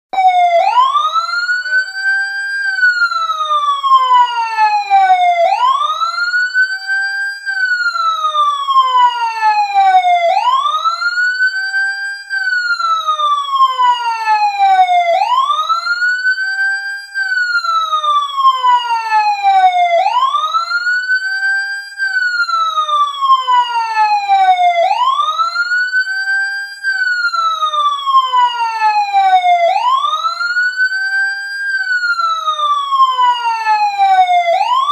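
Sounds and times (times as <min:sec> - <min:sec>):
emergency siren wailing: 0:00.1 - 0:34.9.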